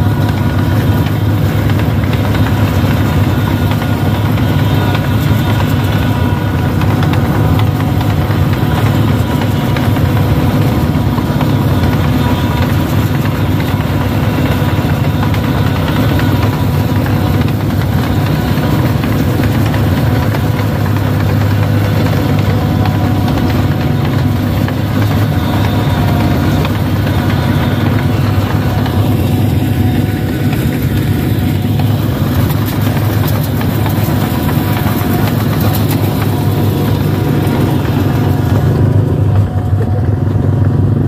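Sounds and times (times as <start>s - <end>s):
harvester engine humming: 0.0s - 41.0s.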